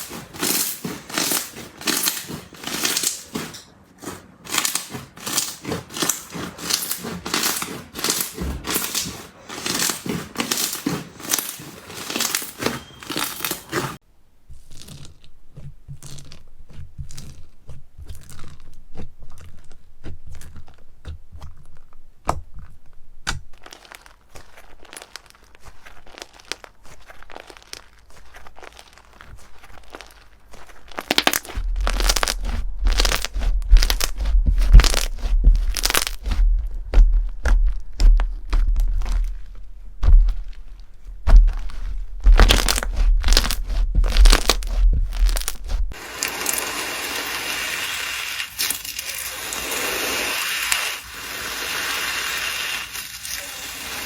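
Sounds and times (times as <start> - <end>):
slime crackling and popping: 0.0 - 47.3, 48.0 - 51.2.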